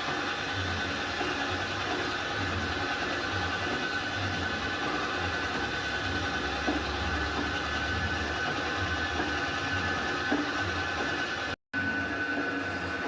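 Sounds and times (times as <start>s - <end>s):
metal lathe whining: 0.0s - 13.0s.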